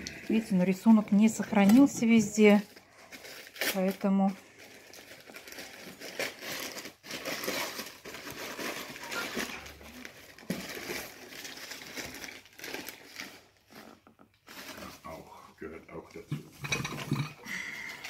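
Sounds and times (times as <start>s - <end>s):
rustling crinkling packing: 0.0s - 15.8s.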